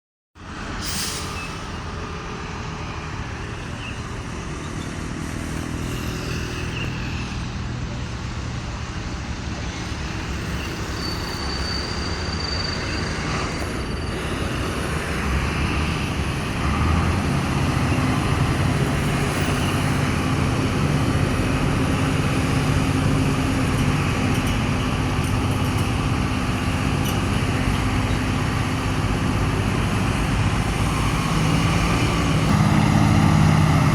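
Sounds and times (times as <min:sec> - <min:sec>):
diesel truck engine droning: 0:00.4 - 0:33.9.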